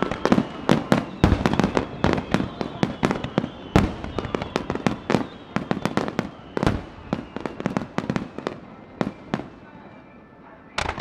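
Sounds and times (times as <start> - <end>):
echoing booms: 0.0 - 9.7
fireworks bursting: 0.0 - 11.0.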